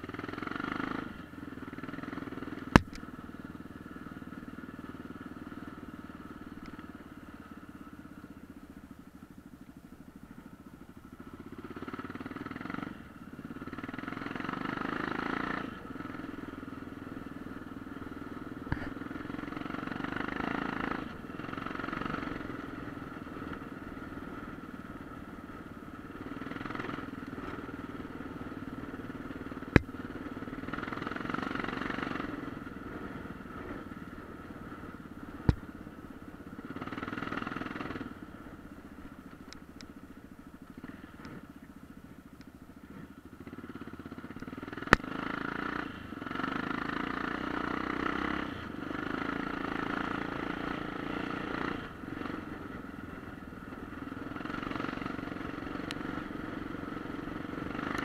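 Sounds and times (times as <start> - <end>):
off-road motorcycle engine: 0.0 - 58.0.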